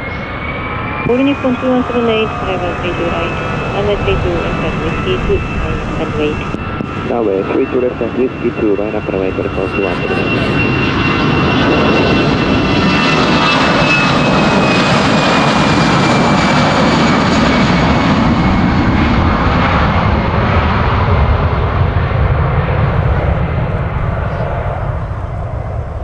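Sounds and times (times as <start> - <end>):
high engine whine: 0.0 - 26.0
jet engines at takeoff power: 0.0 - 26.0.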